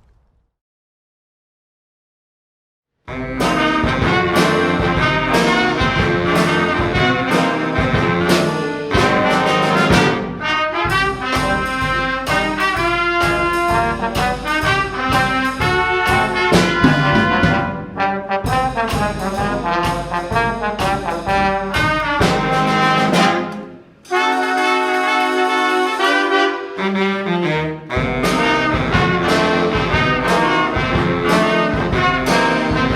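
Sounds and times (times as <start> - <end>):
brass band music: 3.1 - 32.9.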